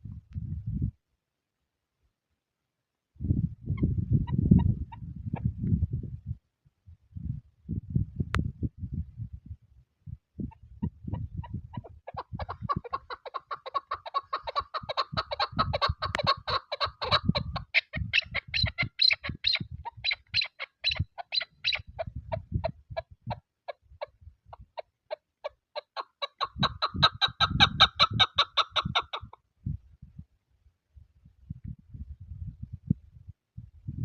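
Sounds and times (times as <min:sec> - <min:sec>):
wind buffeting microphone: 0:00.0 - 0:01.0, 0:03.1 - 0:24.8, 0:26.5 - 0:34.0.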